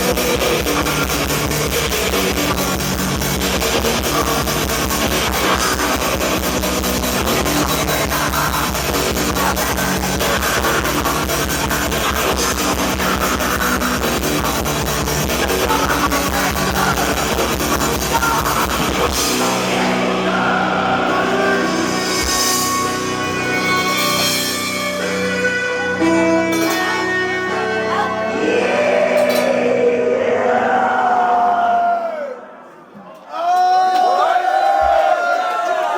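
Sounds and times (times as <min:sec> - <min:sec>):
metal band playing live: 0:00.0 - 0:30.2.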